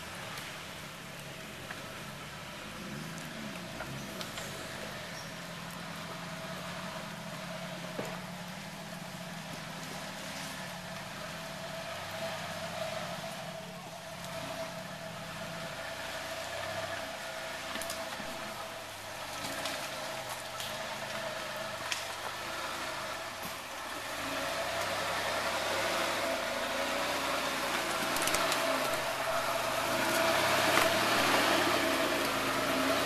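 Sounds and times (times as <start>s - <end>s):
truck engine running at low revs: 0.0s - 33.0s.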